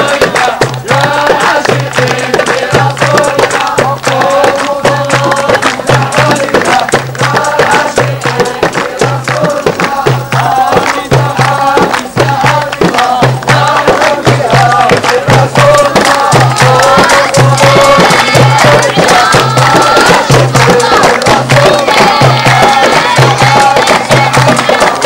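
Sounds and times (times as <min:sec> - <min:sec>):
drum strokes: 0:00.0 - 0:25.0
sharp claps: 0:00.0 - 0:25.0
voices singing folk song: 0:00.0 - 0:25.0.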